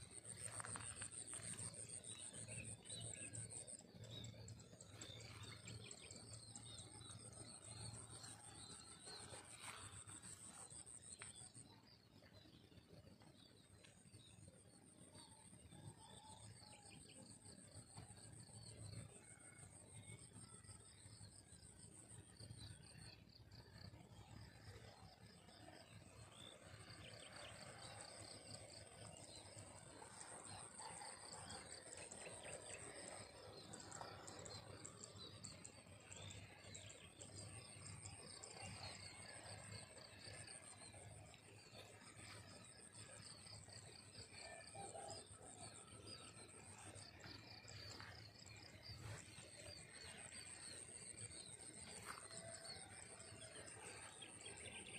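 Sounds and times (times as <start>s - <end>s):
lower pulsing insect trill: 0.0s - 54.9s.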